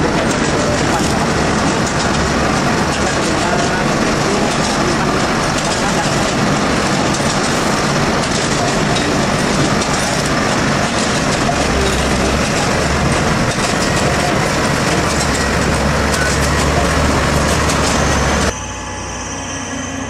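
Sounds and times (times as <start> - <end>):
dense mechanical machine noise: 0.0 - 20.0.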